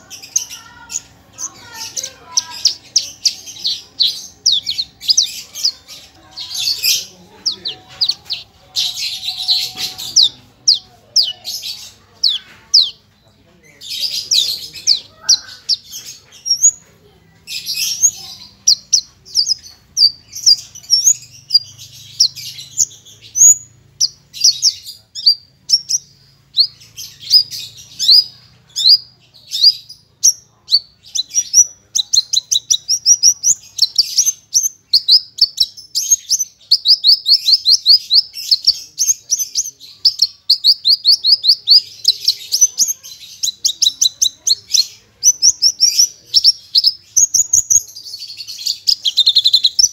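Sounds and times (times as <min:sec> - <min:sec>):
bird singing chirps and trills: 0:00.0 - 0:49.9.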